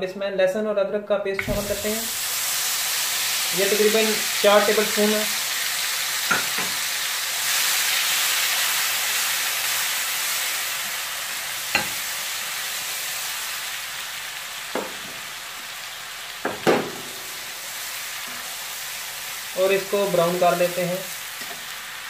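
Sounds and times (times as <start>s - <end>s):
paste sizzling in hot oil: 1.4s - 22.0s.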